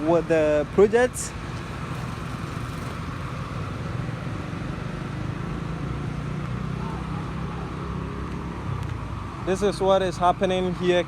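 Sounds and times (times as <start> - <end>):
low rumble of engines: 0.0 - 11.0.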